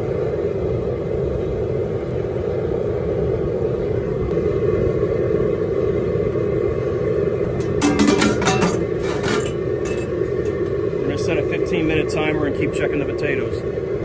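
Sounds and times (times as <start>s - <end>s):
propane burner rushing: 0.0s - 14.0s.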